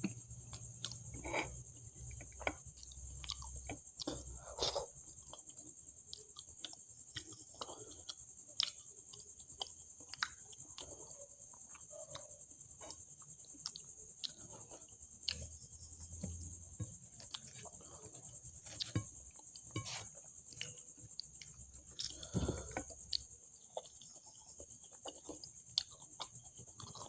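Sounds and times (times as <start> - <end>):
soft chewing: 0.0 - 27.0.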